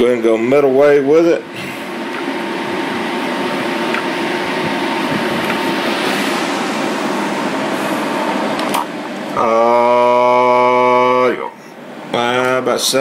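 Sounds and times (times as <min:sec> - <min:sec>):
cooling fans hissing: 0:00.0 - 0:13.0.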